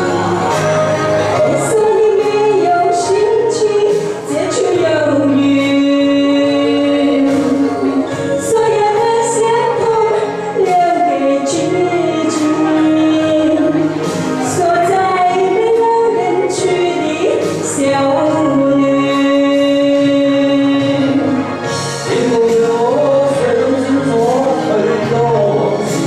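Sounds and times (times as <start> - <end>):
instrumental accompaniment: 0.0 - 26.0
woman singing: 0.0 - 26.0.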